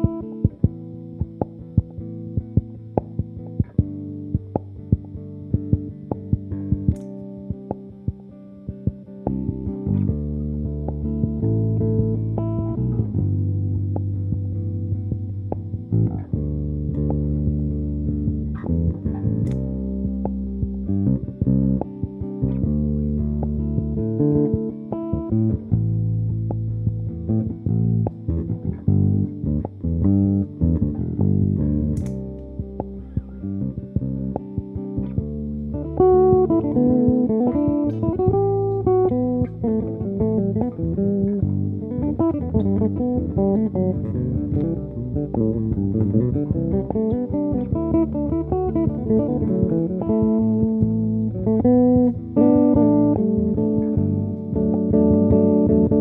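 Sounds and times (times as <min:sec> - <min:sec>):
electric bass guitar improvising: 0:00.0 - 0:56.0.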